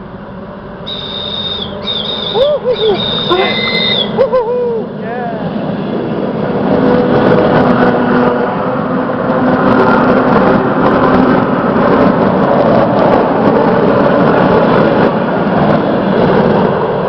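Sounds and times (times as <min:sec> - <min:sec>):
train passing close by: 0:00.0 - 0:17.0.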